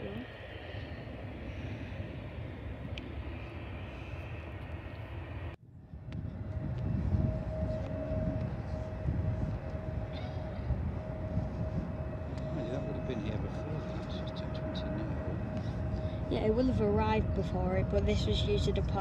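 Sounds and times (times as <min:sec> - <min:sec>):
distant jet engines whining: 0:00.0 - 0:19.0.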